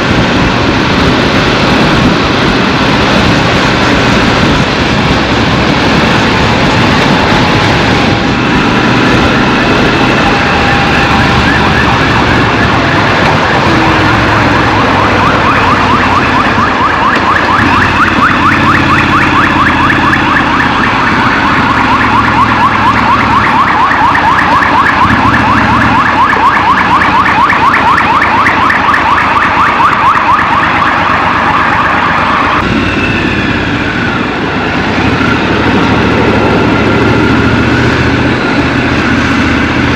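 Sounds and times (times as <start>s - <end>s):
city traffic: 0.0s - 39.9s
siren yelping: 5.8s - 39.9s.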